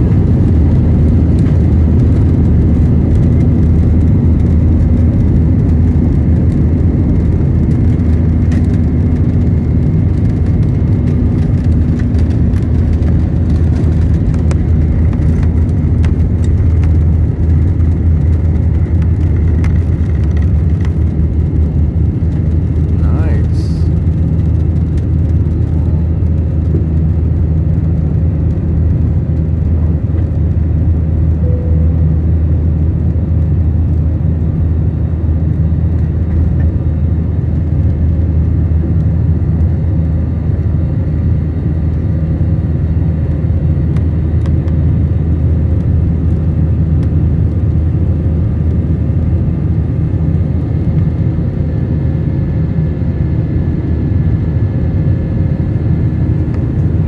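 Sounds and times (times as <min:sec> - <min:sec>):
jet engines rumbling: 0:00.0 - 0:57.0.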